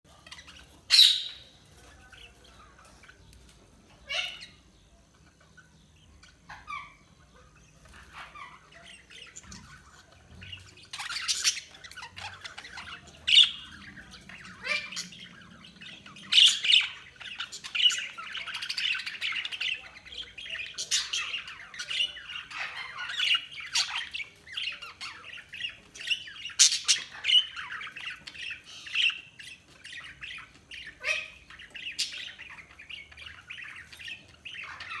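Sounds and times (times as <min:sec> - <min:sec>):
budgies chirping and chattering: 0:00.1 - 0:35.0.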